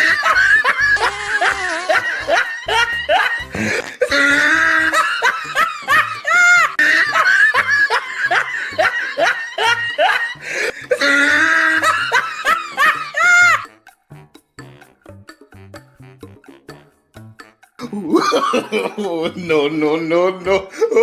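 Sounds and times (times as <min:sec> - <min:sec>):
person laughing loudly: 0:00.0 - 0:13.6, 0:17.8 - 0:21.0.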